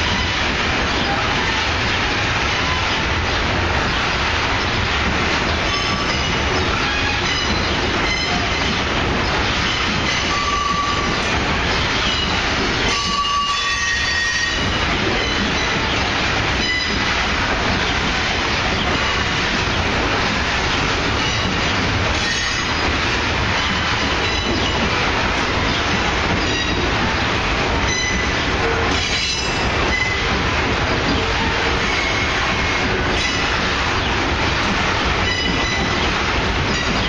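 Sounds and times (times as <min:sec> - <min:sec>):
freight wagons rumbling: 0:00.0 - 0:37.0.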